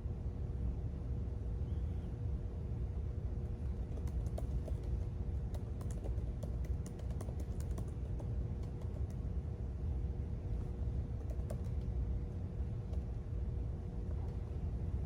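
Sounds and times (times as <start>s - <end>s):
faint hum: 0.0s - 15.0s
low room rumble: 0.0s - 15.0s.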